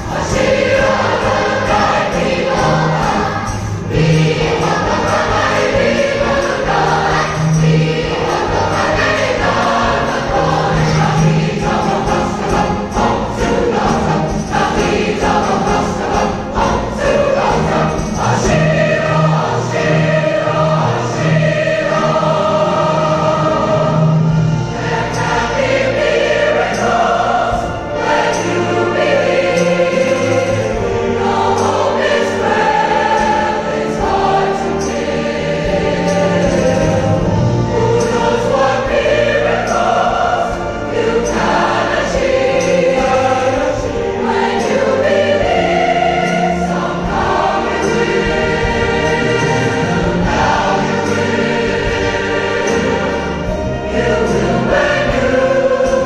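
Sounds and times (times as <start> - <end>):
large choir singing: 0.0 - 56.0
orchestra and wind ensemble: 0.0 - 56.0.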